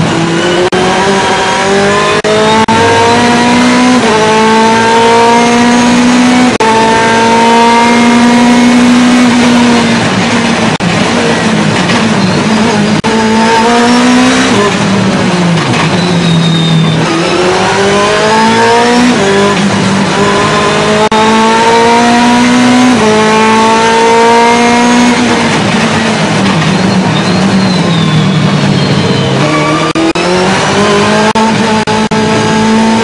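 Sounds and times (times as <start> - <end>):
racing engine revving: 0.0 - 33.0.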